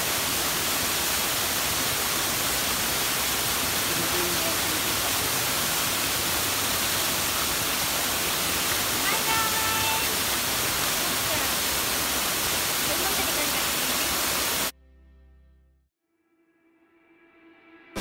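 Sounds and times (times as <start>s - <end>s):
small waterfall rushing: 0.0s - 14.7s.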